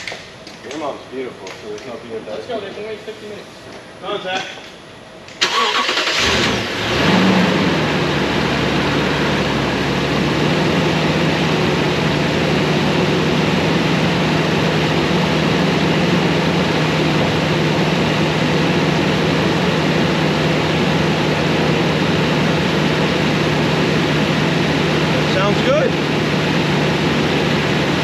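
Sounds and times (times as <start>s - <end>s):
truck engine running: 5.5s - 28.0s.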